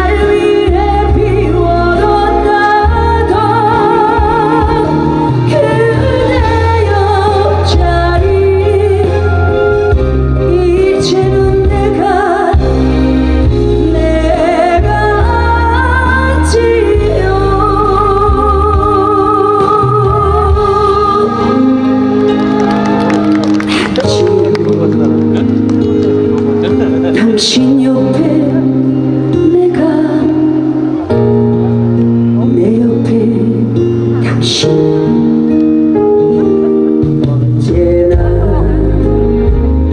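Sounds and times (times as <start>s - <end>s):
woman singing into microphone: 0.0s - 23.0s, 23.6s - 25.0s, 27.1s - 39.9s
musical accompaniment with bass line: 0.0s - 39.9s.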